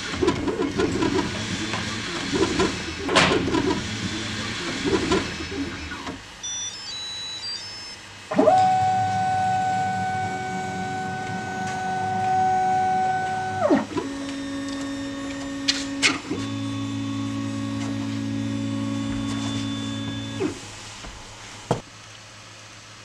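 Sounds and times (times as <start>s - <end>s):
stepper motors whining: 0.1s - 20.7s.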